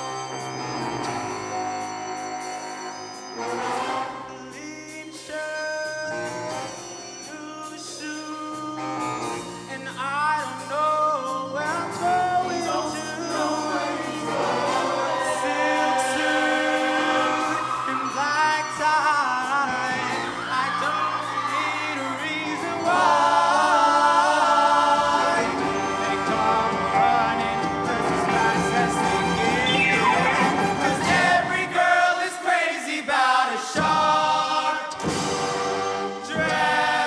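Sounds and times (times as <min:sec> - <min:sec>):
instrumental accompaniment: 0:00.0 - 0:32.0, 0:33.8 - 0:37.0
men's choir singing in harmony: 0:02.6 - 0:09.5, 0:11.5 - 0:37.0.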